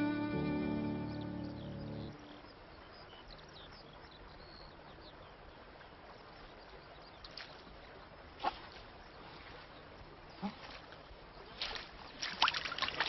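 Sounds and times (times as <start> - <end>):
countryside ambience: 0.0 - 13.0.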